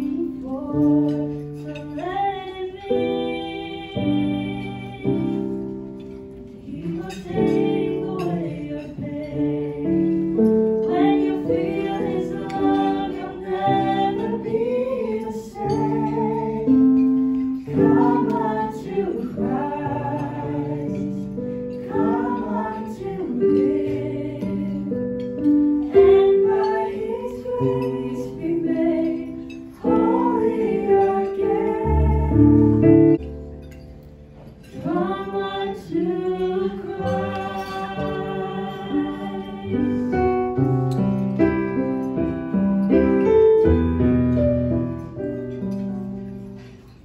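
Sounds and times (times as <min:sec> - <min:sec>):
voices singing in harmony: 0:00.0 - 0:05.8, 0:06.6 - 0:33.2, 0:34.7 - 0:40.5
instrumental accompaniment: 0:00.0 - 0:47.0.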